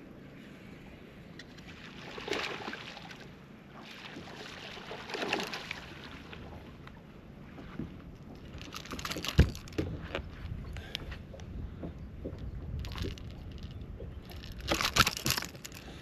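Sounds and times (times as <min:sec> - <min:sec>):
water around boat: 0:00.0 - 0:16.0
wind: 0:00.0 - 0:16.0.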